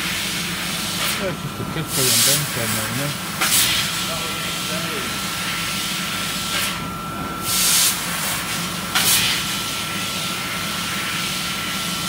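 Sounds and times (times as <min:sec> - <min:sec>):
laser cutting machine hissing: 0:00.0 - 0:12.0.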